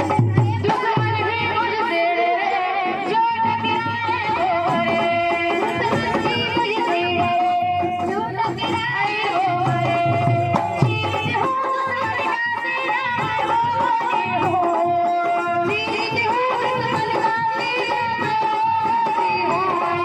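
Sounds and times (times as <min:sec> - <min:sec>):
instrumental and percussion accompaniment: 0:00.0 - 0:20.0
woman singing devotional song: 0:00.0 - 0:20.0.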